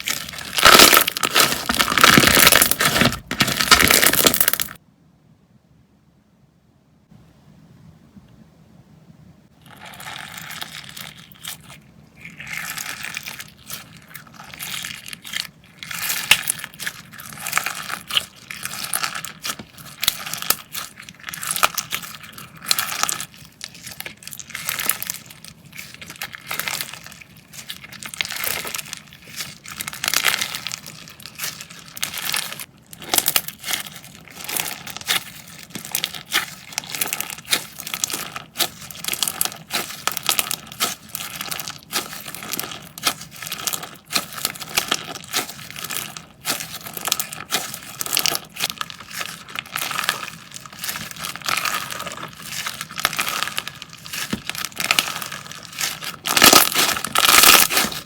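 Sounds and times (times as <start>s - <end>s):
slime squishing with clicks and pops: 10.3s - 58.0s.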